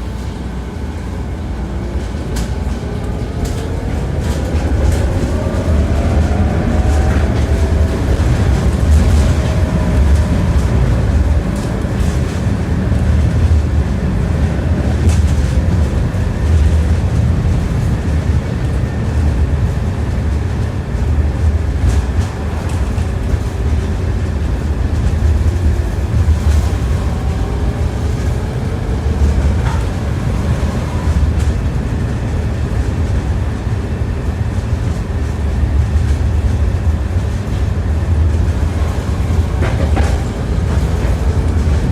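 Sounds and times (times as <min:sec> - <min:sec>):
tram wheels rumbling on rail: 0:00.0 - 0:41.9.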